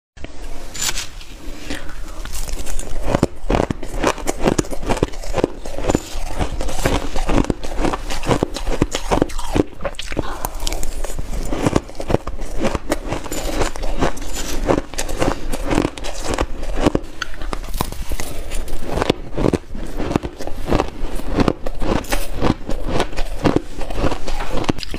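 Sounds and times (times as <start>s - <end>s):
chewing crunchy shaved ice: 1.5s - 24.9s.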